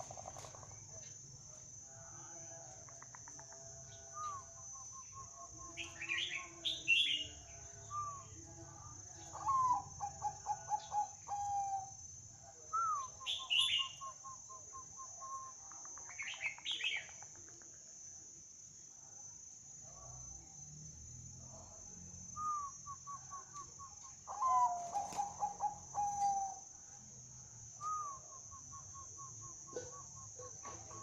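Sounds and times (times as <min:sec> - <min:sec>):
bird singing: 0:00.0 - 0:17.6, 0:21.5 - 0:31.0.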